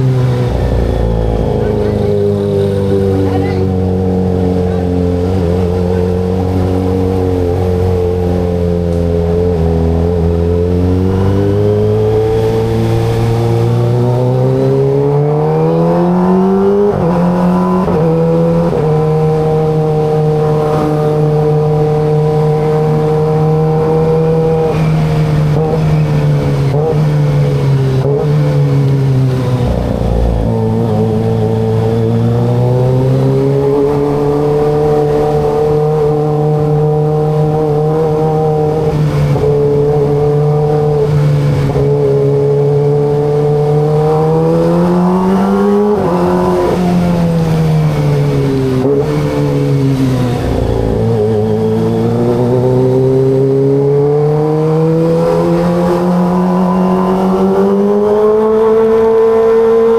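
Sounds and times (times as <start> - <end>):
motorcycle engine and exhaust: 0.0 - 59.9.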